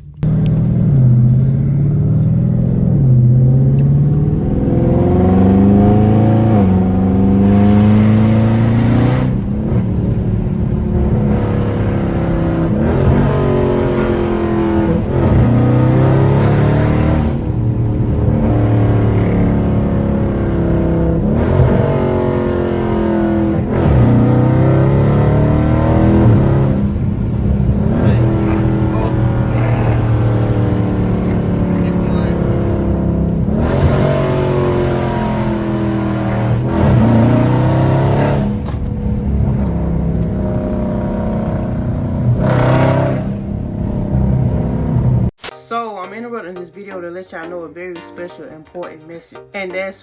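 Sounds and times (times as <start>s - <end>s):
loud car exhaust under load: 0.0s - 45.4s.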